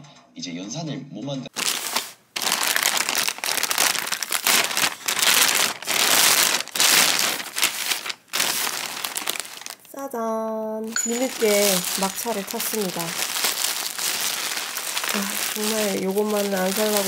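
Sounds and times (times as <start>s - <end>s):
plastic bag ripping and rustling: 1.5s - 9.9s, 11.1s - 17.0s.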